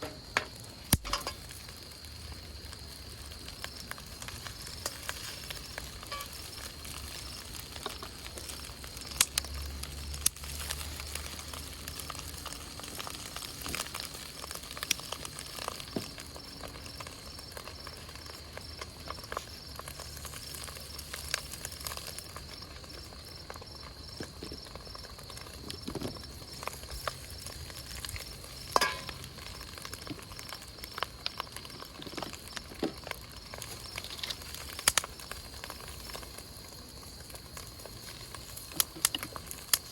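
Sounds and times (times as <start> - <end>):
campfire crackling and popping: 0.0 - 39.9
food sizzling in a wok: 0.0 - 39.9.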